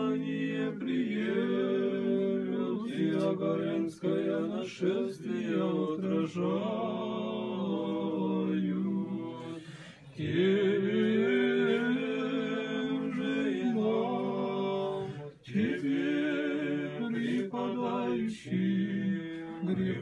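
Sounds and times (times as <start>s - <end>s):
men chanting a hymn: 0.0s - 20.0s.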